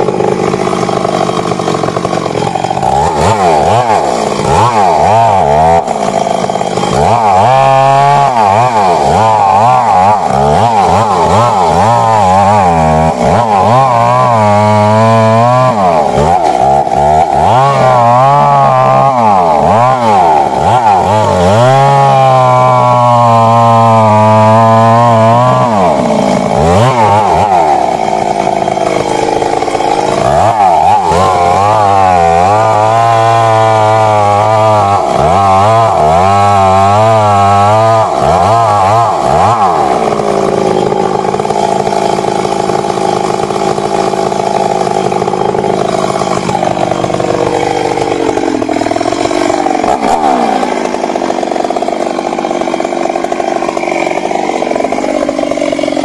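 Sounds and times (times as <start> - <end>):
chainsaw running hard: 0.0 - 56.0.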